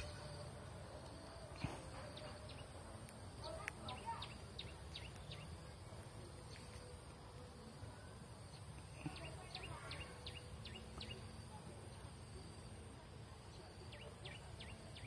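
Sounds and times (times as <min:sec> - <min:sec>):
small bird chirping: 0:00.0 - 0:07.1, 0:08.4 - 0:12.2, 0:13.4 - 0:15.0
faint outdoor background noise: 0:00.0 - 0:15.0.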